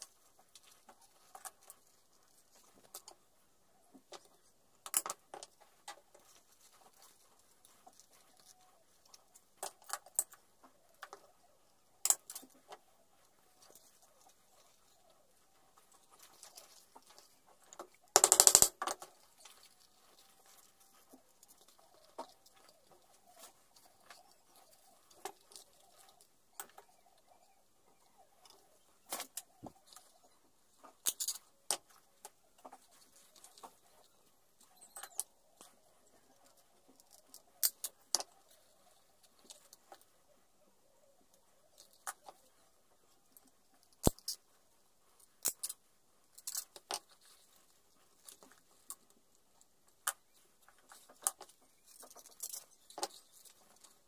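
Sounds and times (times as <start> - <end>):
hands working leather and rivets: 0.0 - 54.0.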